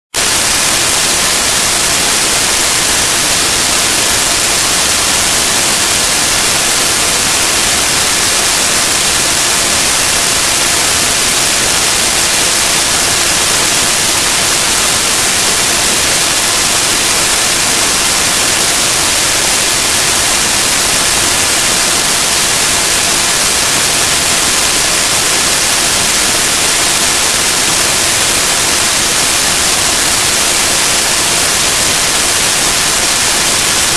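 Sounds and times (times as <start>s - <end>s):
static hiss: 0.2s - 33.9s.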